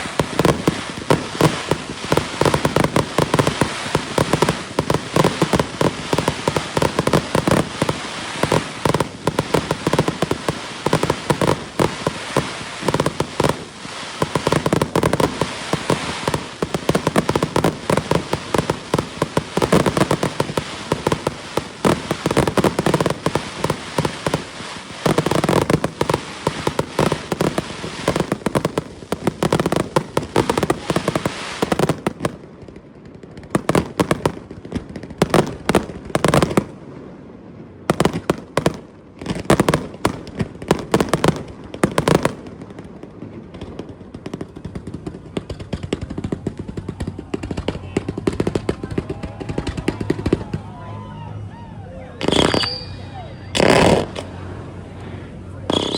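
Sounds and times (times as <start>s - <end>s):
fireworks bangs and crackles: 0.0s - 51.1s, 52.2s - 55.9s.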